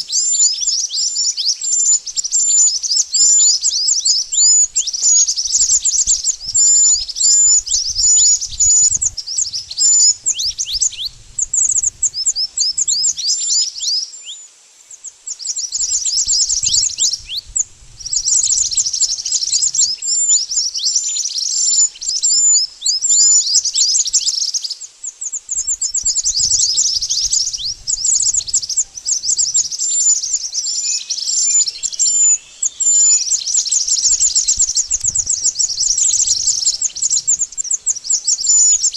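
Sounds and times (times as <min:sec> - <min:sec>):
birds chirping high and thin: 0:00.0 - 0:38.9.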